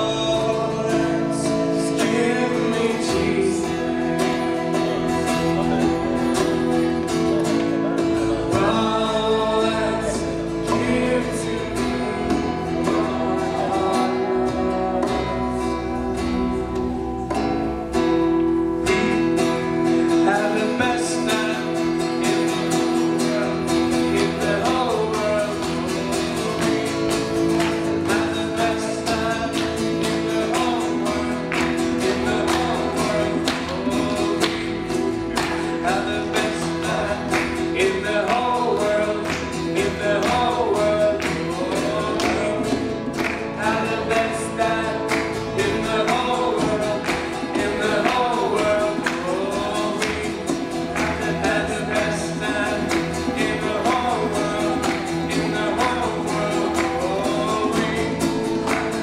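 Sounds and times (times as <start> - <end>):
acoustic guitar strumming: 0.0 - 59.0
people singing: 0.0 - 59.0.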